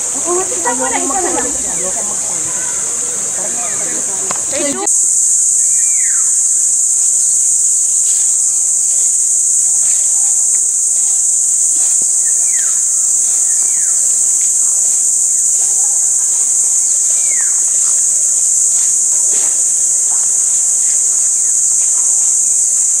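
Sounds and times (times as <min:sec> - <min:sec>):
insect chorus drone: 0:00.0 - 0:23.0
falling bird calls: 0:01.6 - 0:21.5.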